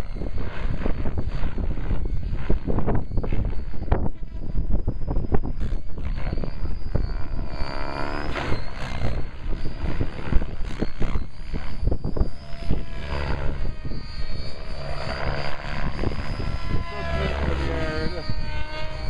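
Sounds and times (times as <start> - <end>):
model helicopter whining: 0.0 - 19.0.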